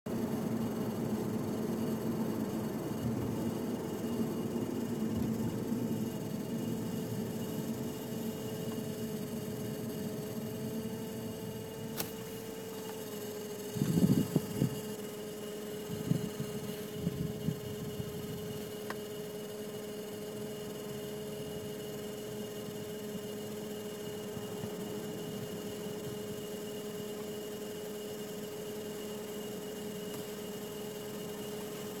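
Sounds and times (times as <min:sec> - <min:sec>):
blower fan humming: 0:00.1 - 0:32.0.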